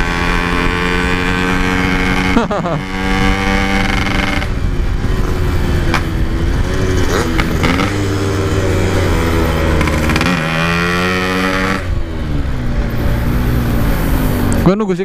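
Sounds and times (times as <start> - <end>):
two-stroke motorcycle engine: 0.0 - 14.6.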